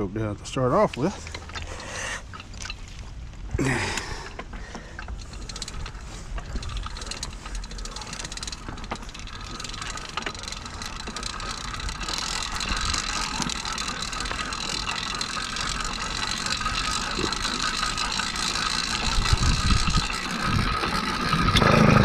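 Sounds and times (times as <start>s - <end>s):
bicycle drivetrain ticking: 0.7s - 22.0s.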